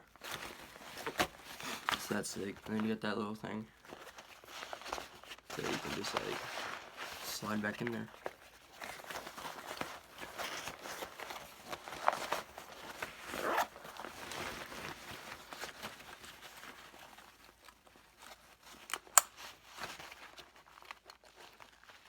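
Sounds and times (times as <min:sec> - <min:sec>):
backpack rustling and crinkling: 0:00.0 - 0:22.0.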